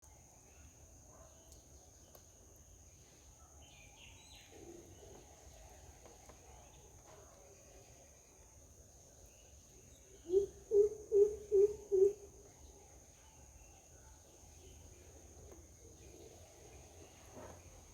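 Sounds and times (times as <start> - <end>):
faint bird chirps: 0.1 - 17.9.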